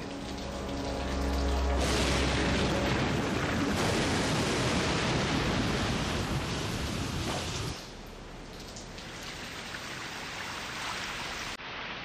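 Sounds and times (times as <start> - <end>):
rain: 0.0 - 12.0
wind: 0.0 - 12.0.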